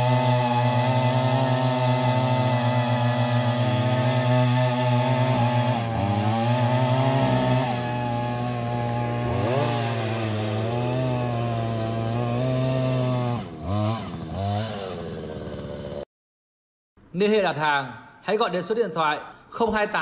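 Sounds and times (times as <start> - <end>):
earth auger engine running: 0.0 - 16.0.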